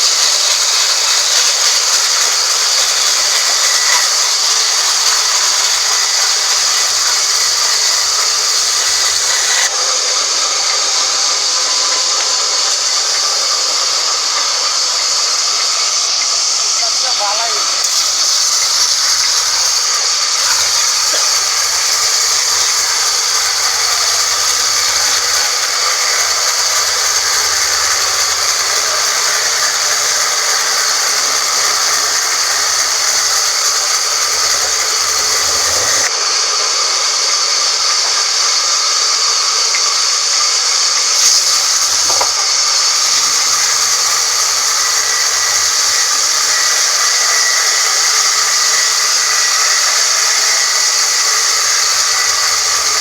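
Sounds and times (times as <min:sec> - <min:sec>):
band sawmill running: 0:00.0 - 0:53.0.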